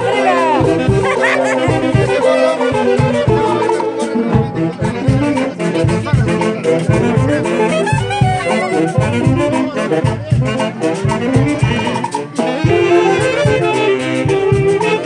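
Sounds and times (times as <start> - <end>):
band music with saxophones and brass: 0.0 - 15.0.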